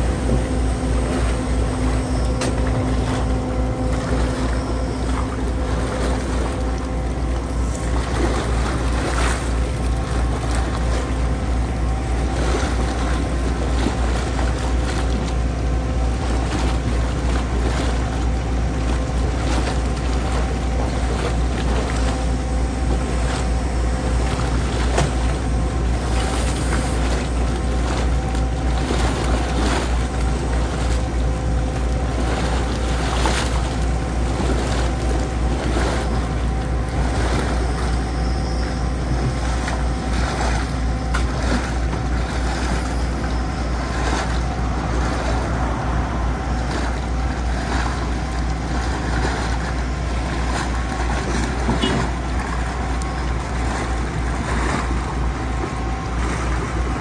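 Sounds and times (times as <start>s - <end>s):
diesel engine drone: 0.0s - 57.0s
hydraulics humming: 0.0s - 57.0s.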